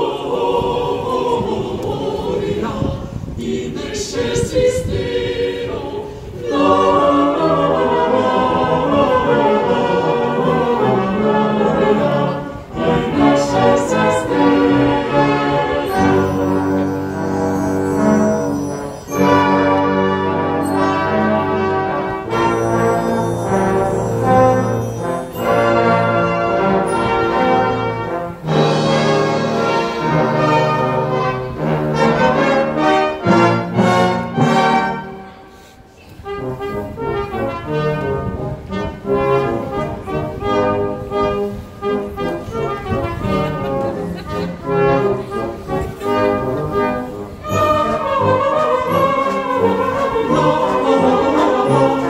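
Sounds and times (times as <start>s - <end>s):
orchestra with brass section: 3.8s - 52.0s.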